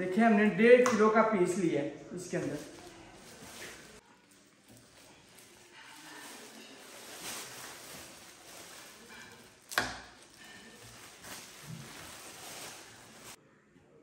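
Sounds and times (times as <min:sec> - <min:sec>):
plastic bags rustling: 0:02.1 - 0:13.4.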